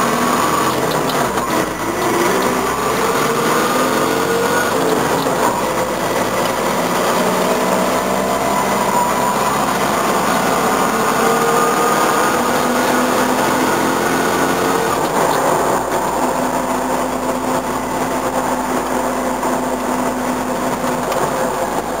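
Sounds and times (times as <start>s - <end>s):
diesel engine revving: 0.0s - 22.0s
road and cab rattle: 0.0s - 22.0s.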